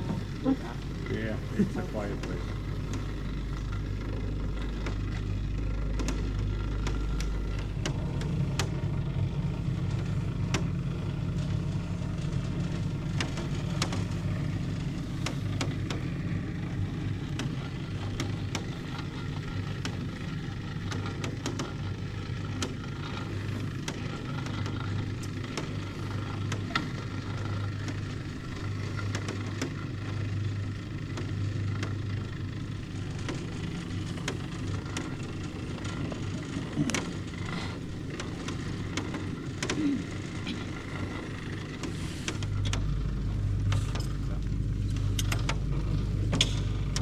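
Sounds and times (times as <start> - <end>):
cable lift humming: 0.0 - 47.0
clicks and creaks: 0.0 - 47.0.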